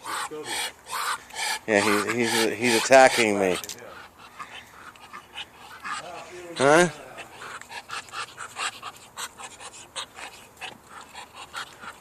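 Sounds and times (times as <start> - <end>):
duck hissing: 0.0 - 12.0.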